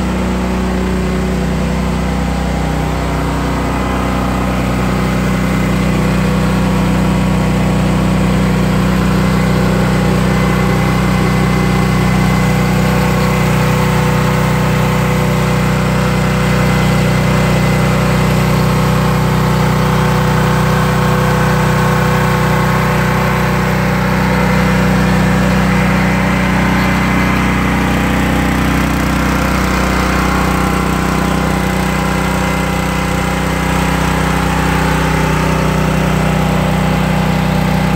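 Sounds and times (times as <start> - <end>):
gas engine running steadily: 0.0 - 37.9.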